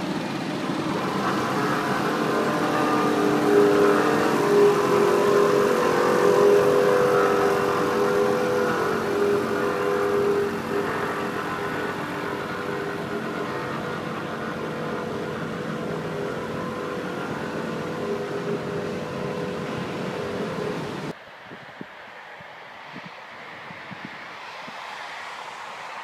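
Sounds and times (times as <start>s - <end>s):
diesel roller engines droning: 0.0s - 21.2s
distant traffic: 0.0s - 26.0s
wind: 0.0s - 26.0s.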